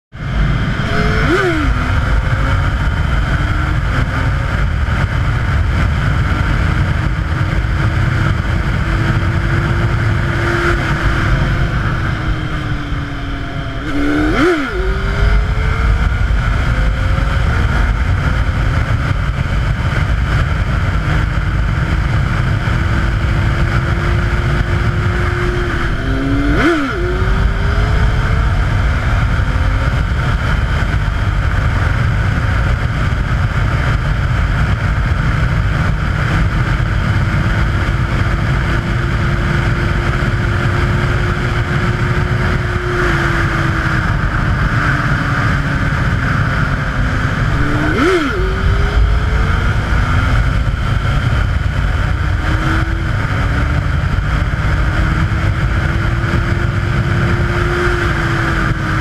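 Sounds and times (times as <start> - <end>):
motorcycle engine revving: 0.1 - 59.0
wind rush on microphone: 0.1 - 59.0.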